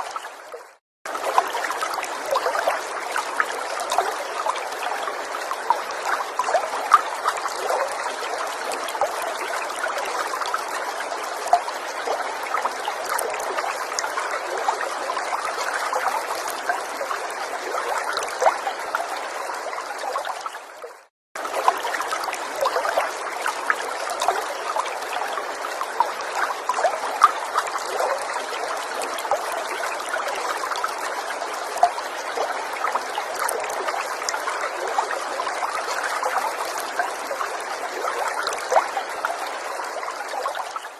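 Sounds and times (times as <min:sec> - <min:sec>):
stream trickling and bubbling: 0:00.0 - 0:40.9.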